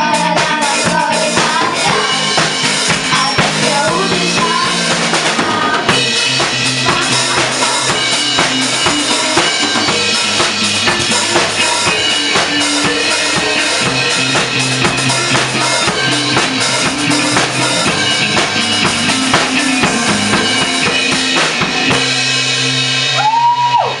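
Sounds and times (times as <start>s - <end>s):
drum kit beat: 0.0s - 24.0s
instrumental pop music: 0.0s - 24.0s.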